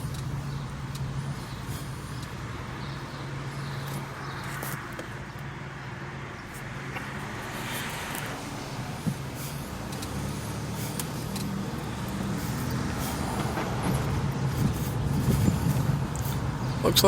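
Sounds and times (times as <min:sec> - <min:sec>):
car engine hum: 0:00.0 - 0:17.0
tyre road noise: 0:00.0 - 0:17.0.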